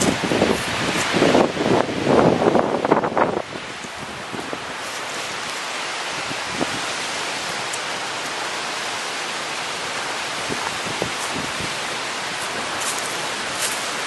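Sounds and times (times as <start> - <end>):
strong wind rushing: 0.0 - 14.0
wind buffeting microphone: 0.0 - 14.0.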